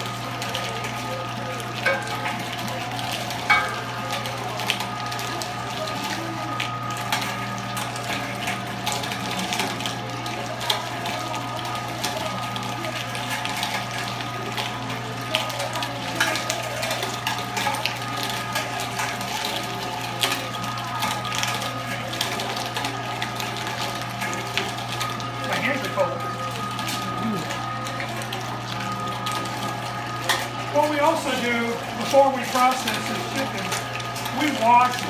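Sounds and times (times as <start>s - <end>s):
bones cracking in grinder: 0.0s - 35.0s
meat grinder motor hum: 0.0s - 35.0s.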